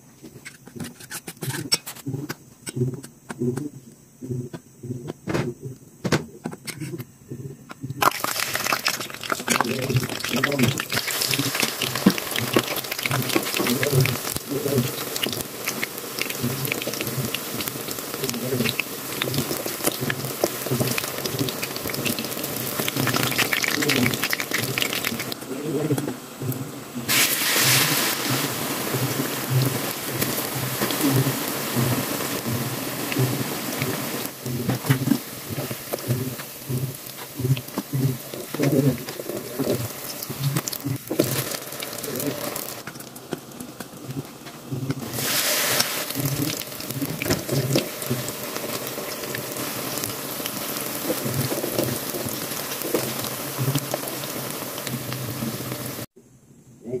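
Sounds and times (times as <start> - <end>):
battered slices sizzling in hot oil: 8.0 - 56.1.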